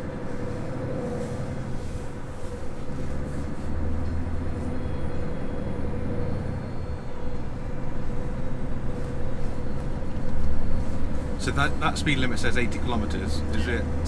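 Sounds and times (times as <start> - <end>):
road noise: 0.0 - 14.0
truck engine rumble: 0.0 - 14.0.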